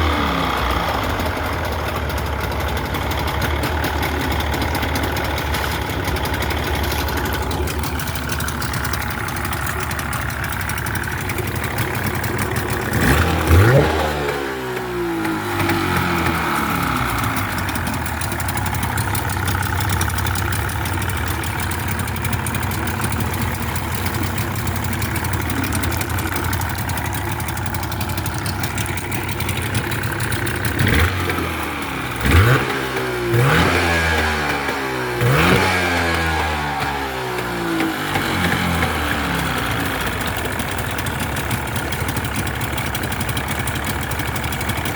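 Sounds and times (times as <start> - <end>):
outboard motor running: 0.0 - 44.9.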